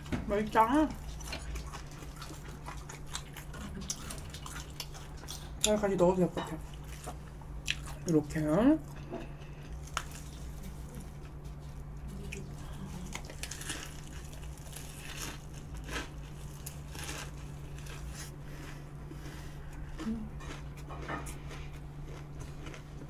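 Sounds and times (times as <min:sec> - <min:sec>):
steady low hum: 0:00.0 - 0:23.0
crunchy chewing: 0:01.0 - 0:05.8, 0:06.6 - 0:08.3, 0:08.9 - 0:23.0.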